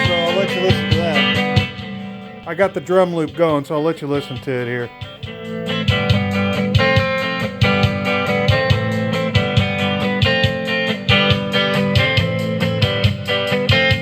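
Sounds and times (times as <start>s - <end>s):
drum machine loop: 0.0s - 14.0s
strummed guitar: 0.0s - 14.0s.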